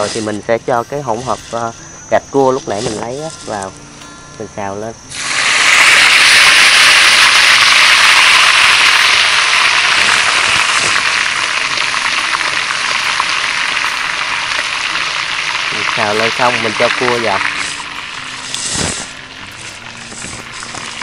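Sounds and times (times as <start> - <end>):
loud sizzle in a wok: 0.0 - 4.2, 5.1 - 21.0.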